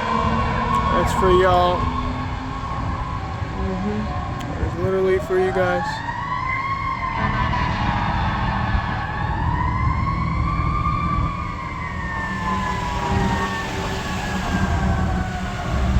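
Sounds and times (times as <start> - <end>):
fire engine siren wailing: 0.0 - 15.9.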